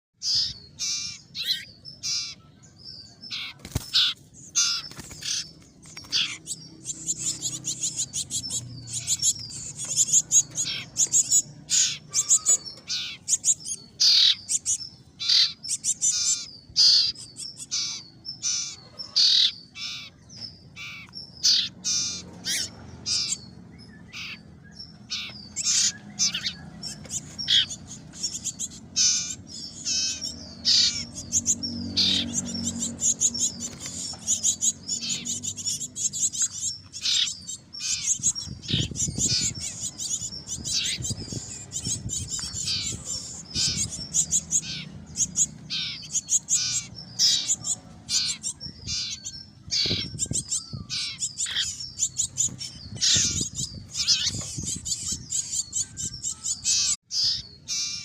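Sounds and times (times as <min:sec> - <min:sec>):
young bird begging calls: 0:00.2 - 0:02.4, 0:03.3 - 0:20.2, 0:20.8 - 0:23.4, 0:24.1 - 0:24.5, 0:25.1 - 0:58.0.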